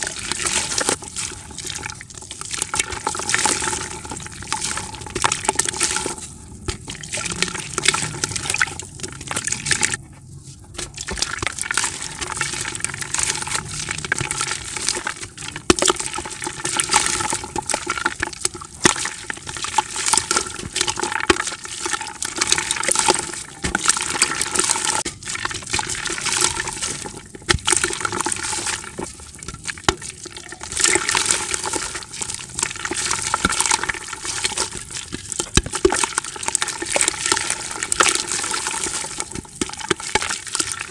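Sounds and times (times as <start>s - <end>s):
dry dirt crumbling and crackling: 0.0s - 40.9s.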